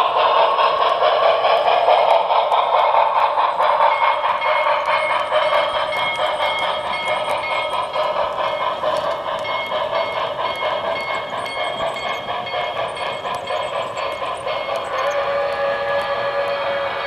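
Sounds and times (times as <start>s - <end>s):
model train rattling on track: 0.0s - 17.0s.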